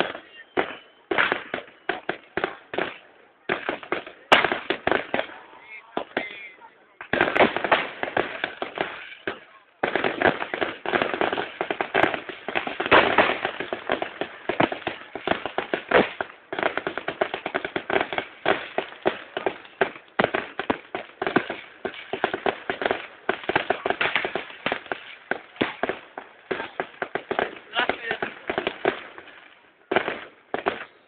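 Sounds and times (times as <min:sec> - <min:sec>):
fireworks cracking and popping: 0:00.0 - 0:31.0.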